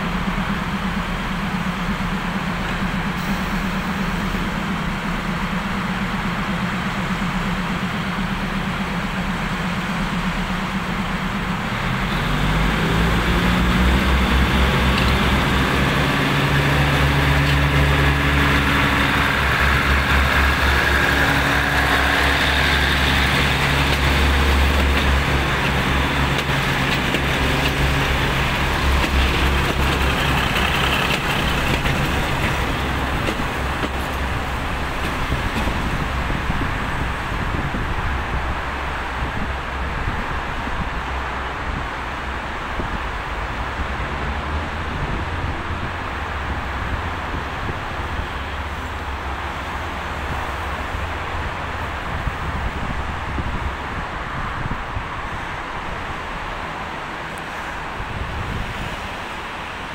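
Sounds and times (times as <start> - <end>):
diesel train engine: 0.0 - 59.9.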